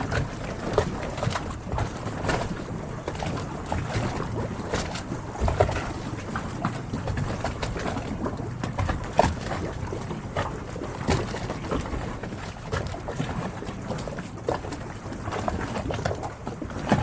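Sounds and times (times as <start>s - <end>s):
small splashes and knocks: 0.0s - 17.0s
water lapping against boat hulls: 0.0s - 17.0s.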